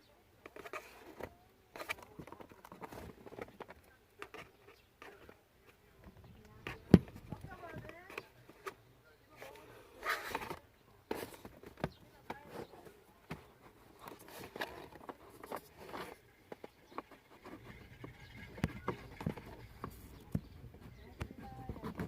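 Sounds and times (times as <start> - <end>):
plastic parts clicking and knocking: 0.4 - 8.8, 9.4 - 22.0.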